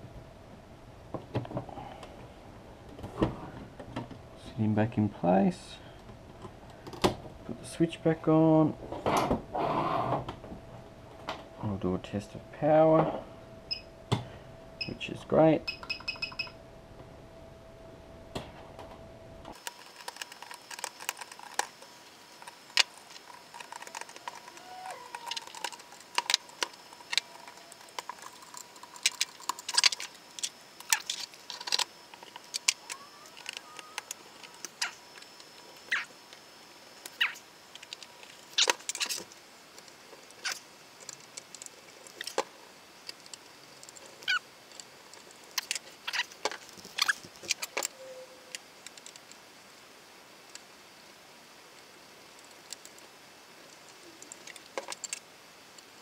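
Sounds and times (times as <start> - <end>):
faint high whine: 7.4 - 56.0.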